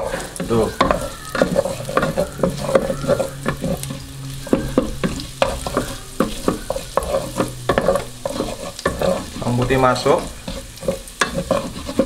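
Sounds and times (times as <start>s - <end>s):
garlic sizzling in oil: 0.0s - 12.0s
wooden spatula scraping pot: 0.0s - 12.0s.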